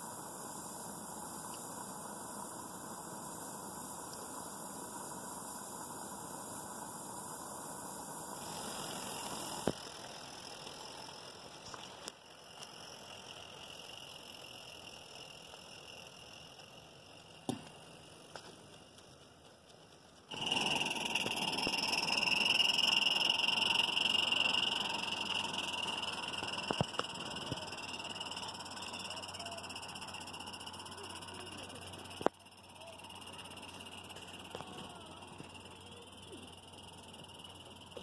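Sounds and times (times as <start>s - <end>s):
steam locomotive hiss and rattle: 0.0s - 38.0s.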